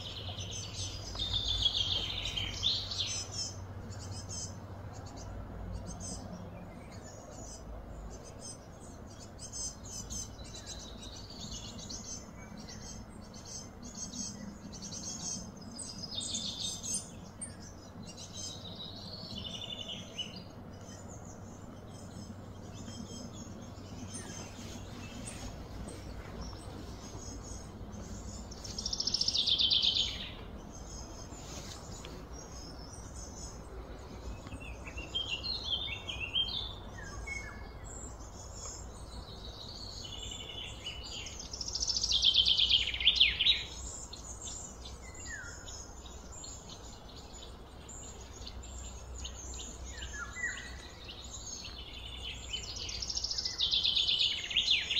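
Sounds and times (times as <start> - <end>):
steady low background hum: 0.0 - 54.9.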